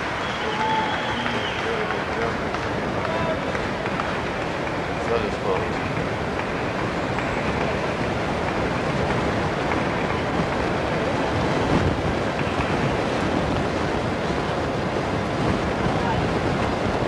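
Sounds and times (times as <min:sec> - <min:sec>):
crowd murmur: 0:00.0 - 0:17.0.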